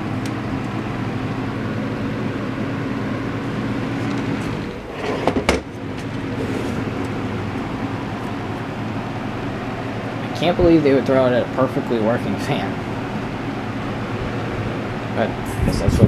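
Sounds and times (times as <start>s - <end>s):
box fan motor hum: 0.0s - 16.0s
rush of air from fan blades: 0.0s - 16.0s.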